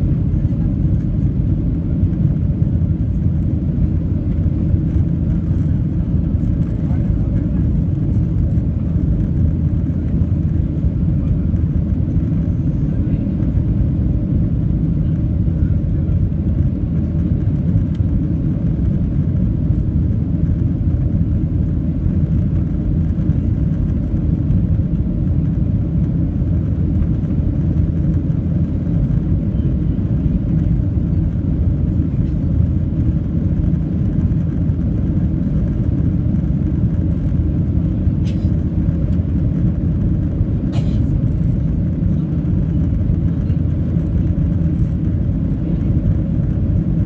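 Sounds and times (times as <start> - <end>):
jet engine rumble in cabin: 0.0 - 47.0.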